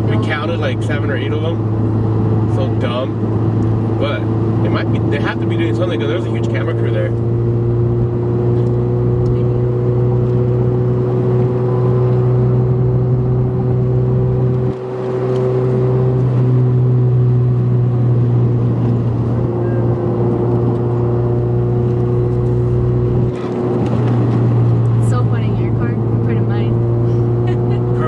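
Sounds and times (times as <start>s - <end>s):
car engine and exhaust droning: 0.0s - 28.0s.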